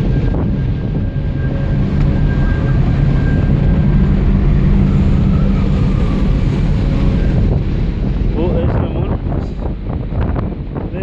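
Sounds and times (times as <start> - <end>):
storm wind buffeting microphone: 0.0 - 11.0.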